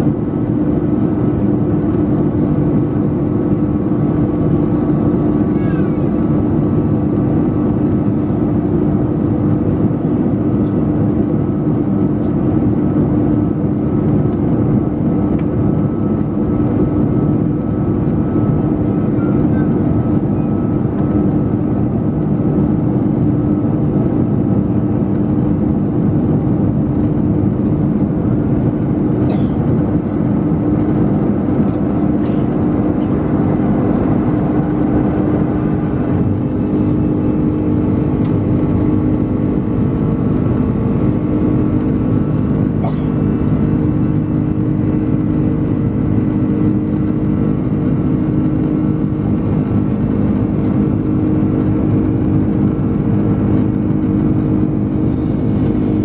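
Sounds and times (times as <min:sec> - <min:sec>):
jet engines and airflow in cabin: 0:00.0 - 0:56.0.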